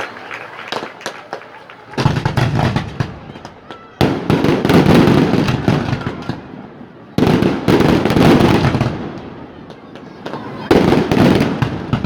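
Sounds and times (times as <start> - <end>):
fireworks crackling: 0.0 - 6.6, 7.2 - 12.0.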